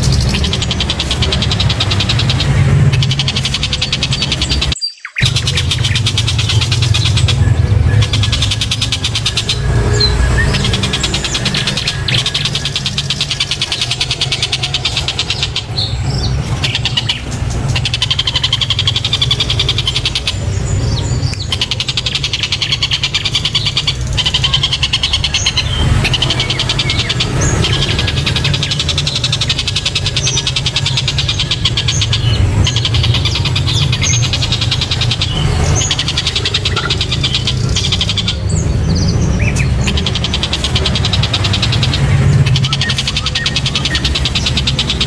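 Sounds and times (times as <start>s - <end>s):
bird chattering calls: 0.0s - 45.0s
steady low rumble: 0.0s - 45.0s.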